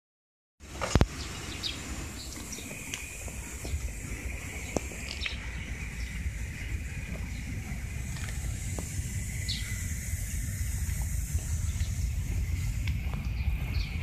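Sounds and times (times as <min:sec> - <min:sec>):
birds chirping: 0:00.6 - 0:14.0
low rumble: 0:01.0 - 0:14.0
high-pitched drone: 0:02.0 - 0:14.0.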